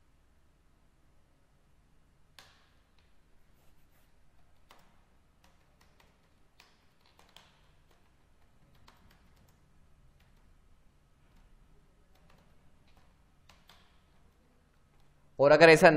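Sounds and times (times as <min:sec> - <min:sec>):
low steady hum: 0:00.0 - 0:15.9
typing on a computer keyboard: 0:02.3 - 0:15.1.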